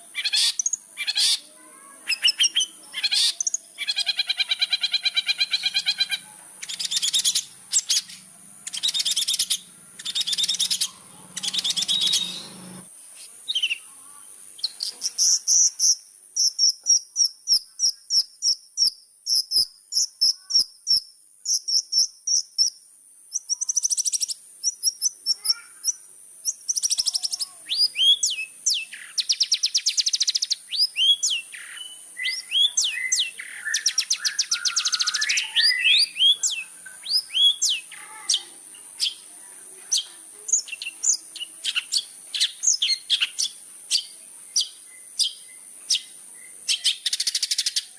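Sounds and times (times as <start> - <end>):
bird singing buzzy rasps and chirps: 0.0 - 47.9.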